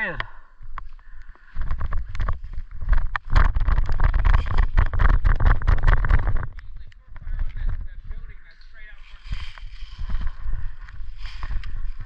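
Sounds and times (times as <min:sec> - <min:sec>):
microphone buffeting and handling: 0:00.0 - 0:12.0
clicks and rustles of gear: 0:00.6 - 0:07.9, 0:09.2 - 0:12.0.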